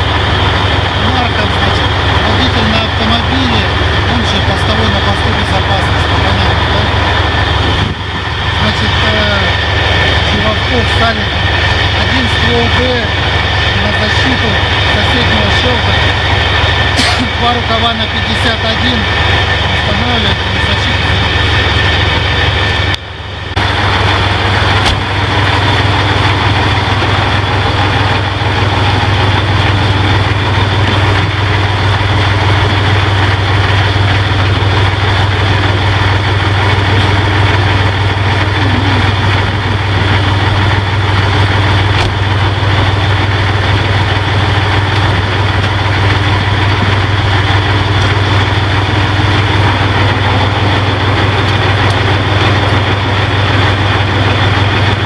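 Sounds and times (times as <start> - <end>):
fire truck engine idling: 0.0 - 55.0.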